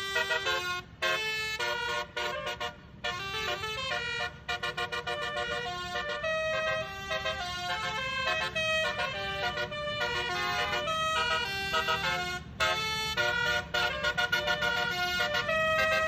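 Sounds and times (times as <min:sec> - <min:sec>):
air horn playing a tune: 0:00.0 - 0:16.0.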